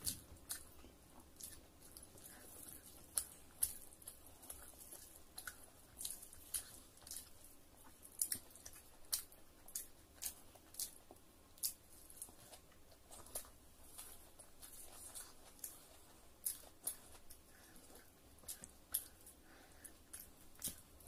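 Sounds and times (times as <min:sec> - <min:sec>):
person chewing with mouth smacks: 0:00.0 - 0:21.0.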